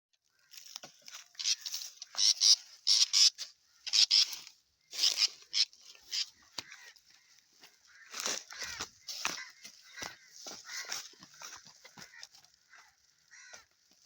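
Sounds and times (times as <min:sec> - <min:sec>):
bird squawking raspily: 0:01.3 - 0:07.3, 0:07.9 - 0:13.6.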